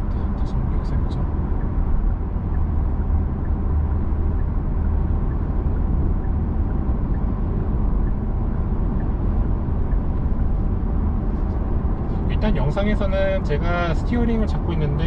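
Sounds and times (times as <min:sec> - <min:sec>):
road and tyre noise: 0:00.0 - 0:15.0
turn signal ticking: 0:00.0 - 0:15.0.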